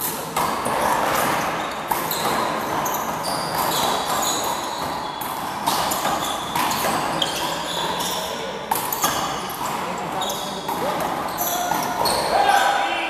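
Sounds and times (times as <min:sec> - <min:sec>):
sneakers squeaking on court floor: 0:00.0 - 0:12.8.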